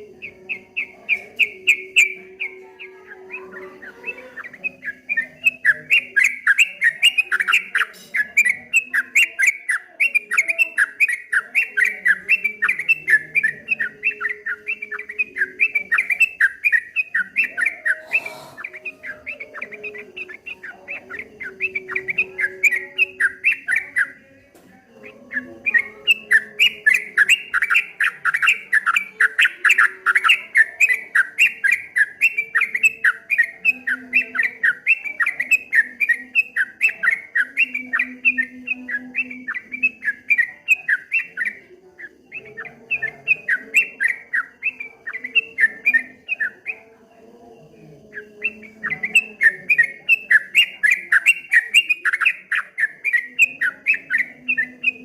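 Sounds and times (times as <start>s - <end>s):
bird singing chattering notes: 0.0s - 24.4s, 25.0s - 46.9s, 48.0s - 55.0s.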